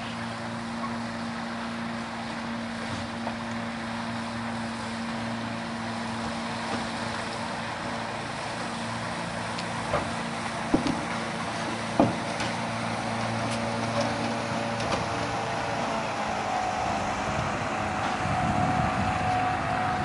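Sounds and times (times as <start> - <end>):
outboard engine running: 0.0 - 20.0.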